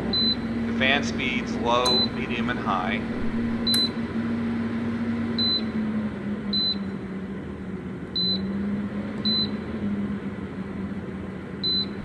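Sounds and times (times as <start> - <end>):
heater fan humming: 0.0 - 12.0.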